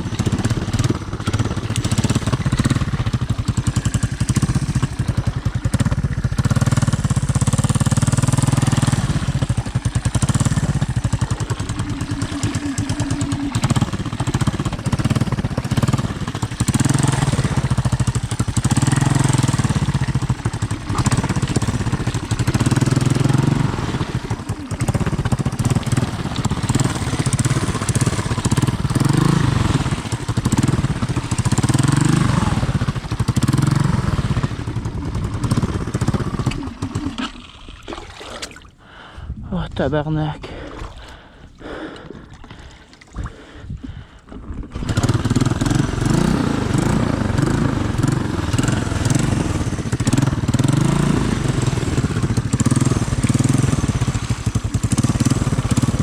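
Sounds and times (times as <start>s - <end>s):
three-wheeler engine revving: 0.0s - 37.8s, 44.3s - 56.0s.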